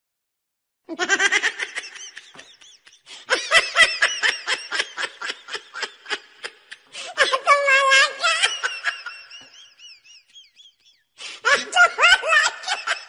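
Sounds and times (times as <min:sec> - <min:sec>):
high-pitched laughter: 0:00.9 - 0:10.8, 0:11.4 - 0:13.0.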